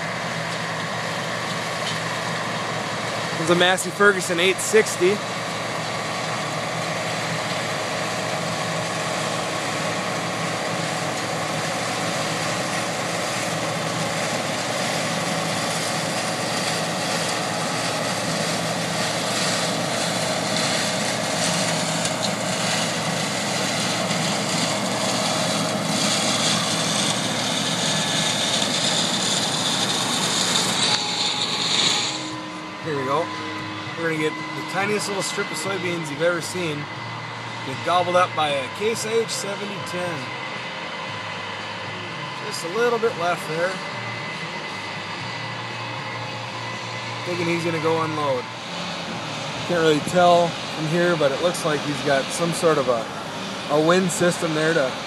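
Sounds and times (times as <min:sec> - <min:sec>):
combine harvester running: 0:00.0 - 0:55.0
high whine: 0:00.0 - 0:55.0.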